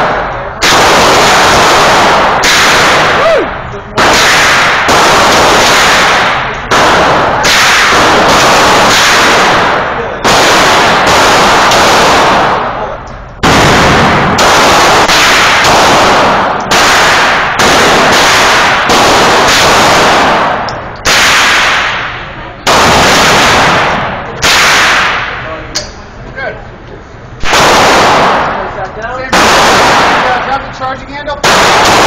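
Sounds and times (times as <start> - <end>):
gunshots: 0.0 - 25.6, 27.4 - 32.0.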